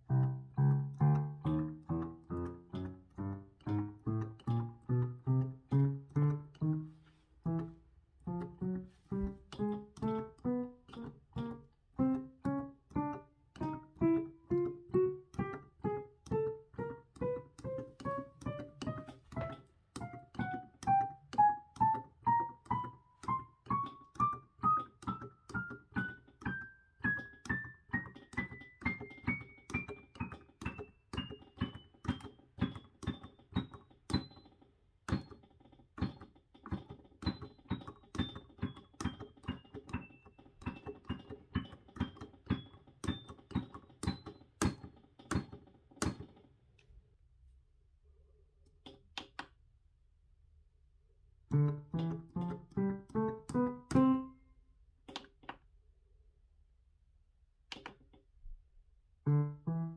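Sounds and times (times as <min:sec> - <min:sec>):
digital piano single notes climbing: 0:00.0 - 0:46.1, 0:51.5 - 0:54.6, 0:59.2 - 0:59.9.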